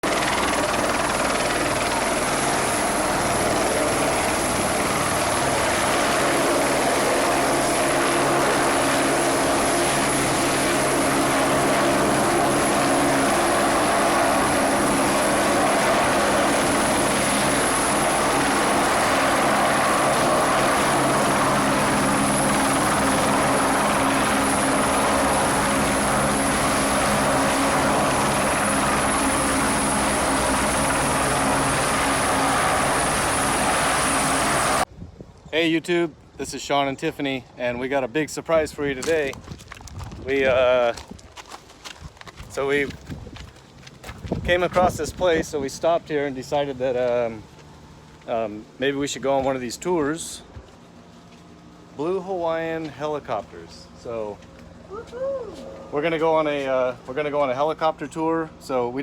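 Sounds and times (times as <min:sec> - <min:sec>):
helicopter running: 0:00.0 - 0:34.9, 0:44.0 - 0:59.0.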